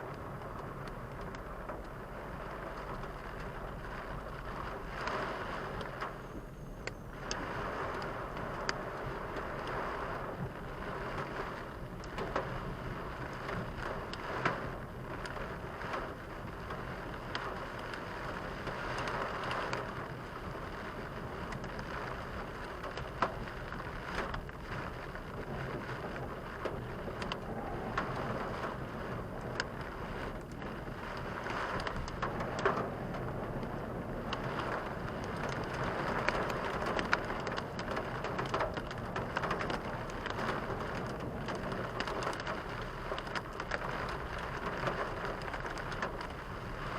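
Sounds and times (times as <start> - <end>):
heavy rain drumming on car: 0.0 - 46.9.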